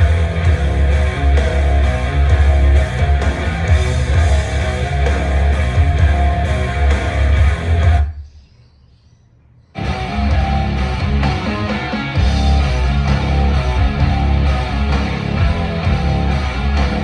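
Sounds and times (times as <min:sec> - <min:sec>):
rock song over speakers: 0:00.0 - 0:08.2, 0:09.8 - 0:17.0.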